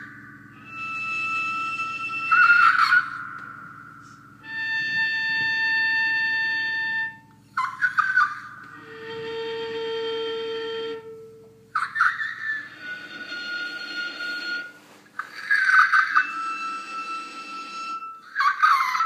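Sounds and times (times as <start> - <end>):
steady lower tone: 0.0 - 15.4
low electronic hum: 0.0 - 19.0.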